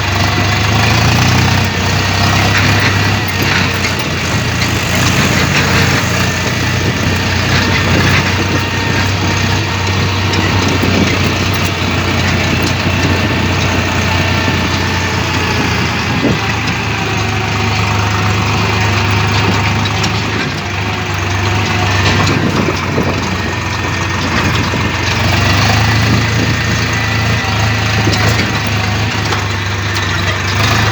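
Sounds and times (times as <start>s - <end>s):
tractor engine idling: 0.0s - 30.9s.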